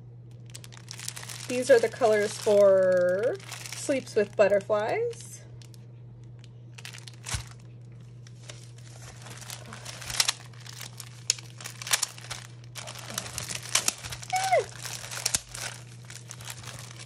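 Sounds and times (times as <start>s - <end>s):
low steady hum: 0.0s - 17.0s
plastic bags crinkling: 0.3s - 17.0s.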